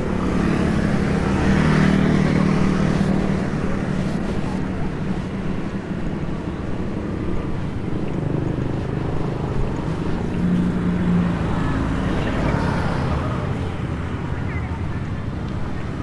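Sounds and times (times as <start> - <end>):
road traffic rumble: 0.0 - 16.0
vehicle engine hum: 0.0 - 16.0.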